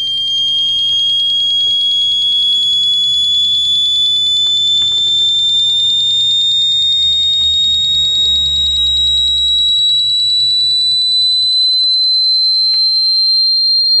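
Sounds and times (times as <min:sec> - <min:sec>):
piezo speaker rising shrill tone: 0:00.0 - 0:14.0.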